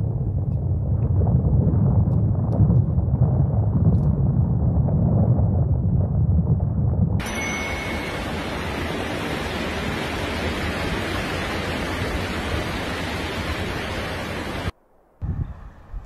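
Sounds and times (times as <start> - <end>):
low rumbling buffets: 0.0 - 16.0
storm wind rushing: 0.0 - 16.0.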